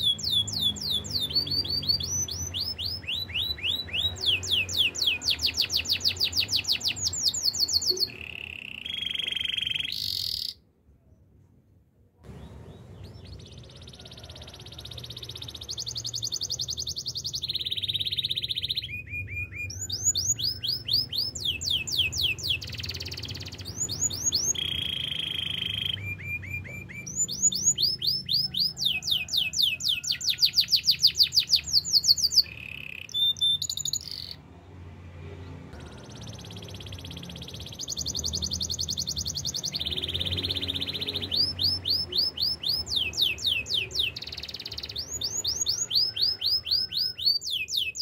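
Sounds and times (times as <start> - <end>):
canary singing trills: 0.0 - 10.6, 12.3 - 34.4, 35.7 - 48.0.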